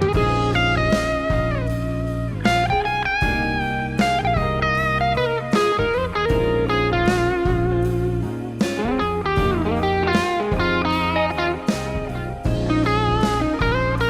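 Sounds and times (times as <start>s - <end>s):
bass: 0.0s - 14.0s
electric guitar lead with bends: 0.0s - 14.0s
steady drum beat: 0.0s - 14.0s.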